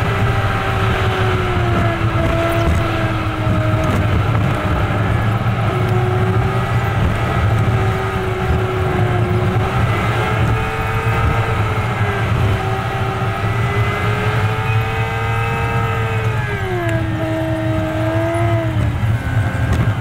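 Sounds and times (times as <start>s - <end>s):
road noise: 0.0s - 20.0s
truck engine rumble with whine: 0.0s - 20.0s.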